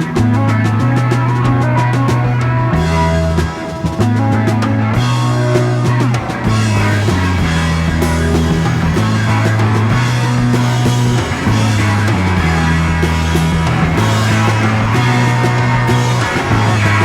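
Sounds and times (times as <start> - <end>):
hard rock band playing: 0.0 - 17.0.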